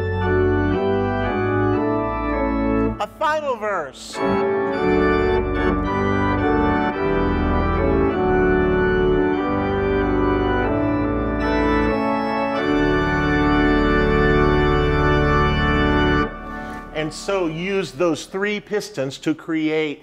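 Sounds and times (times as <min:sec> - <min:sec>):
organ playing hymn chords: 0:00.0 - 0:20.0.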